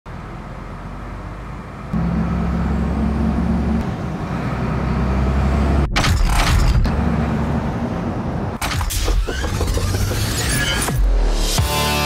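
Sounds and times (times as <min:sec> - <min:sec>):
heavy truck engine rumbling: 0:00.1 - 0:11.0.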